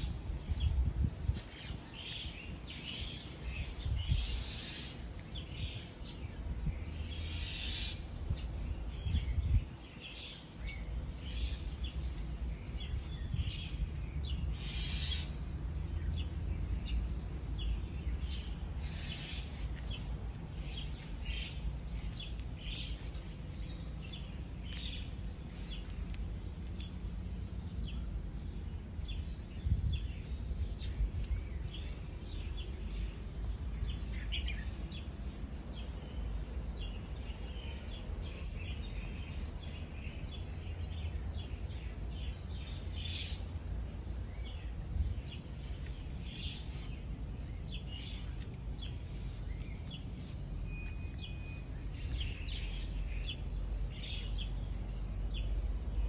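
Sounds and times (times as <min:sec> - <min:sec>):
low microphone rumble: 0:00.0 - 0:56.0
small birds chirping: 0:00.0 - 0:56.0.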